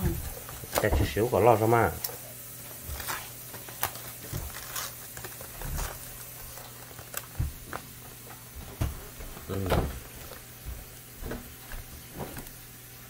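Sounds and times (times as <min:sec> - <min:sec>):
aluminium foil crinkling: 0:00.0 - 0:12.7.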